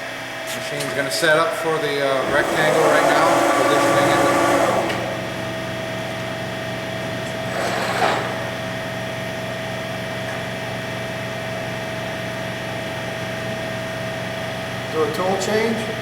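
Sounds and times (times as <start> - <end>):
machine hum with high tone: 0.0 - 16.0.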